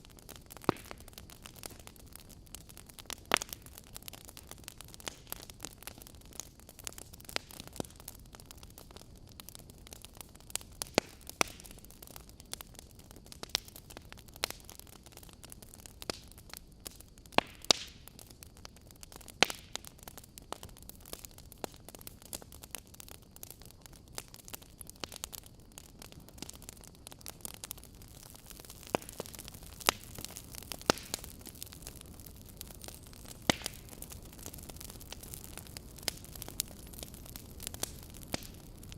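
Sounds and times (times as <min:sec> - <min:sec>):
burning wood popping: 0:00.0 - 0:38.9
fireplace crackling: 0:00.0 - 0:38.9
soft steady hiss: 0:00.0 - 0:38.9.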